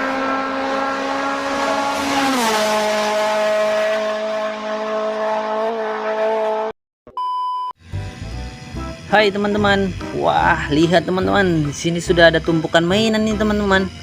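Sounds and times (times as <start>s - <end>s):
engine running: 0.0s - 6.7s, 7.8s - 14.0s.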